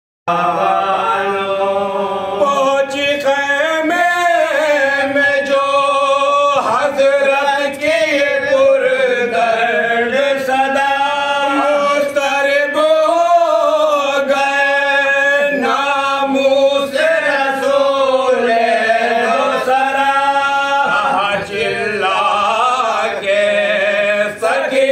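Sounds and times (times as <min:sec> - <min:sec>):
men chanting together: 0:00.3 - 0:24.9.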